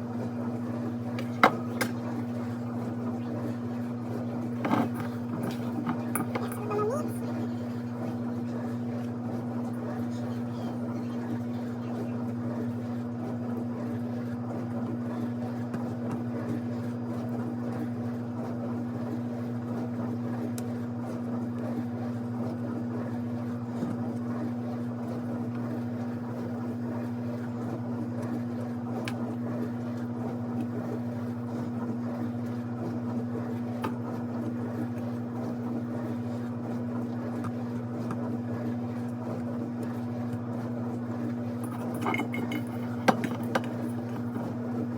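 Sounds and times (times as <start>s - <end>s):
low machine hum: 0.0s - 20.8s, 21.4s - 44.9s.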